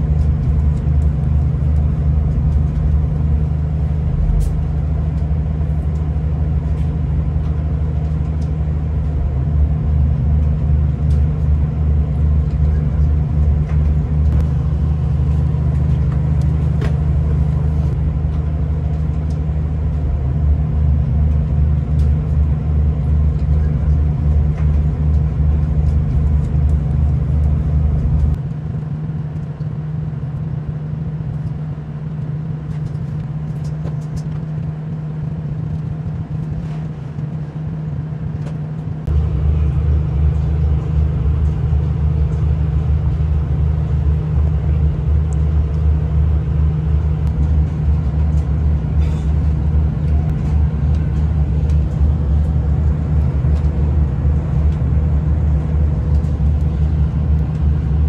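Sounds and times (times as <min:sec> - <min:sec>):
train interior drone: 0:00.0 - 0:58.0.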